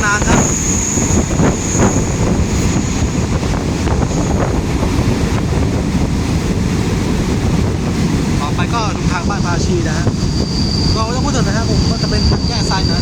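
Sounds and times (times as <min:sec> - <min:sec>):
train rumbling: 0:00.0 - 0:13.0
wind buffeting microphone: 0:00.0 - 0:13.0.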